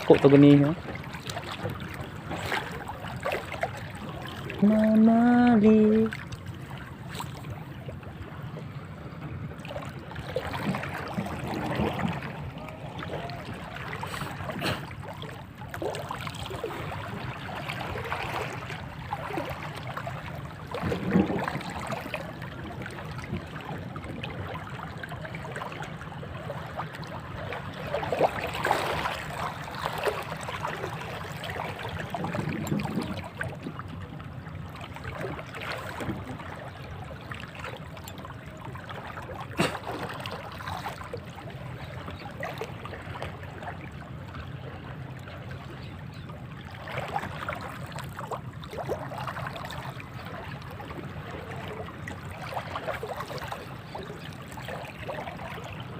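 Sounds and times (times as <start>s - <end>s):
sea water lapping: 0.0s - 55.9s.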